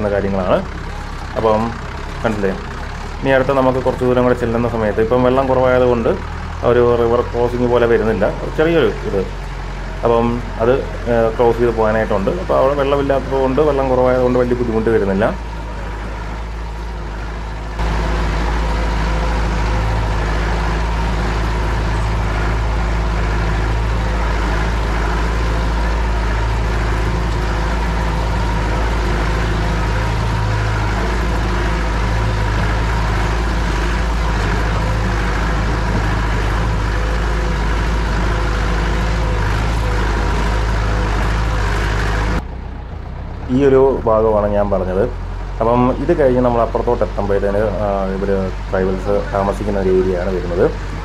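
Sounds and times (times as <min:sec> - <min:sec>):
jeep engine rumbling: 0:00.0 - 0:51.0.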